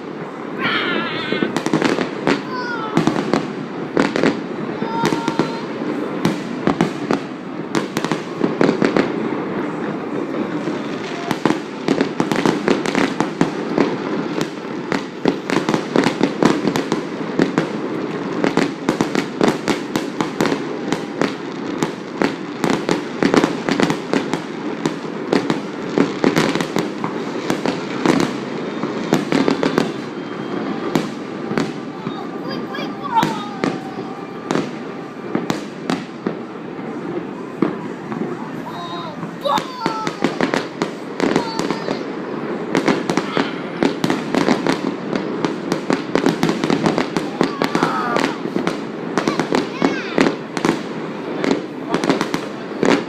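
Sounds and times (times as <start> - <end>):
fireworks crackling: 0.0 - 53.0.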